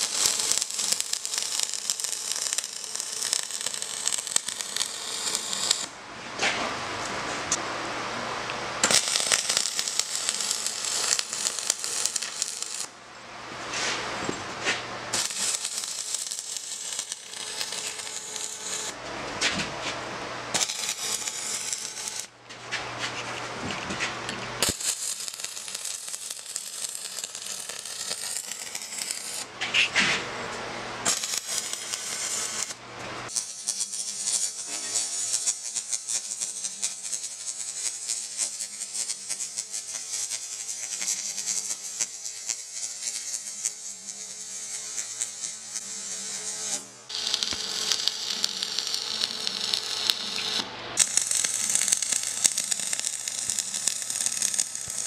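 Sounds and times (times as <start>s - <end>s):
welding arc crackling and sizzling: 0.0s - 6.0s, 8.8s - 12.9s, 15.1s - 19.0s, 20.5s - 22.3s, 24.6s - 29.5s, 31.0s - 55.0s.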